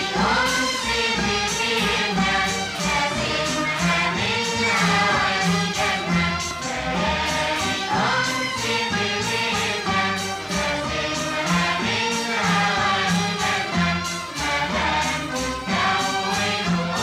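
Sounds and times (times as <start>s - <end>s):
waltz music with singing: 0.0s - 17.0s.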